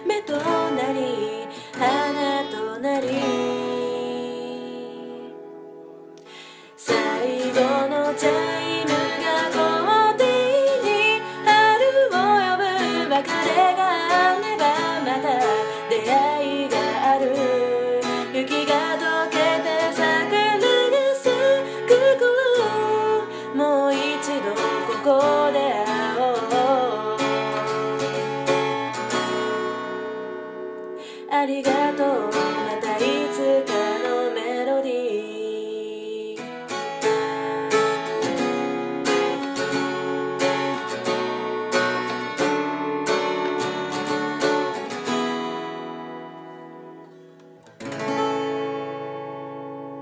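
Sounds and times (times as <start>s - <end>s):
acoustic guitar strumming: 0.0s - 35.7s, 36.3s - 50.0s.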